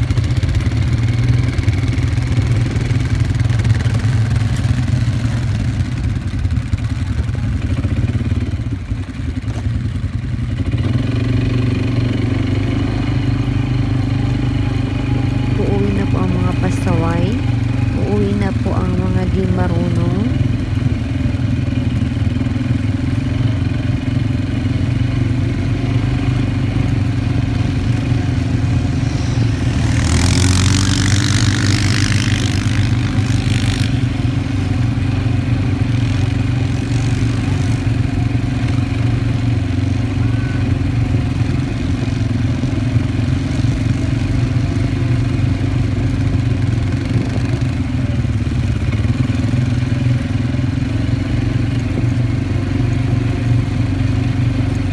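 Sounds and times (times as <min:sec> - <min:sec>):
quad bike engine running: 0:00.0 - 0:54.9.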